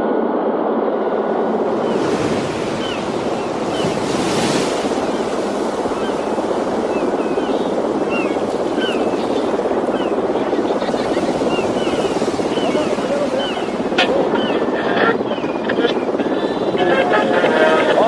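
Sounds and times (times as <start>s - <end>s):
helicopter rotor and engine noise: 0.0s - 18.0s.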